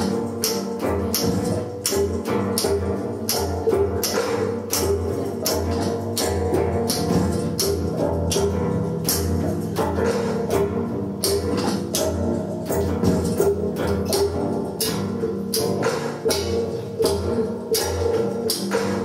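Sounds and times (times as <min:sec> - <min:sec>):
hissy percussion hits: 0:00.0 - 0:19.0.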